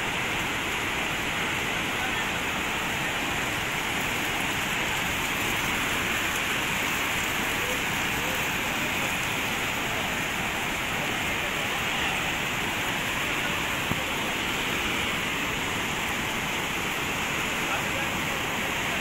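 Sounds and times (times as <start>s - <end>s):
rushing river water: 0.0s - 19.0s.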